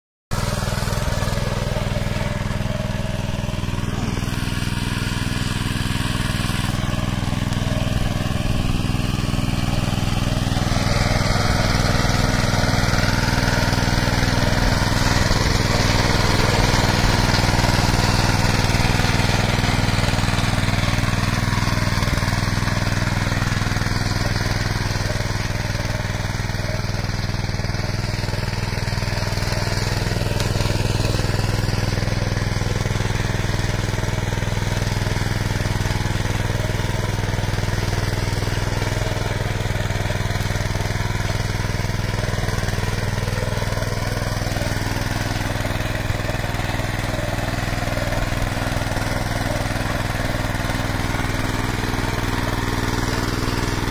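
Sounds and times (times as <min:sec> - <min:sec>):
power tiller engine running: 0:00.3 - 0:53.9
tines digging soil: 0:00.4 - 0:53.9.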